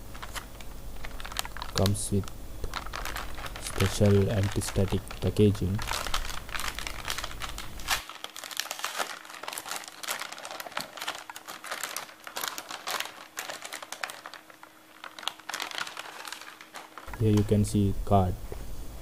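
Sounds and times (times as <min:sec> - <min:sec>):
plastic bag crinkling: 0:00.0 - 0:17.7.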